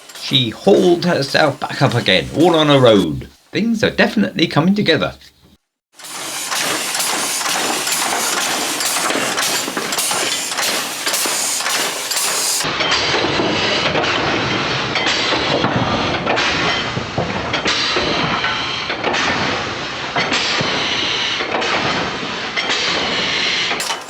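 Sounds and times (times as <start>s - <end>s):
model locomotive hissing and rattling: 0.0s - 5.2s, 6.0s - 12.8s, 13.5s - 24.0s.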